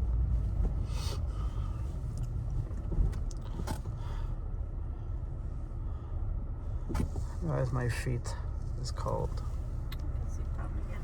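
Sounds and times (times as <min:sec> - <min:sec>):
car engine rumble from inside: 0:00.0 - 0:11.0.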